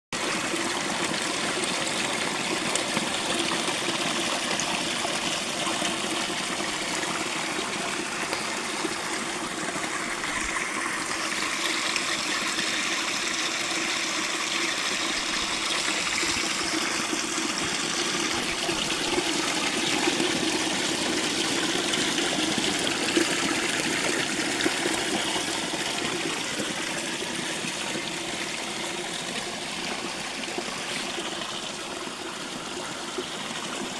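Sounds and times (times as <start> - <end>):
stream flowing: 0.2 - 33.9.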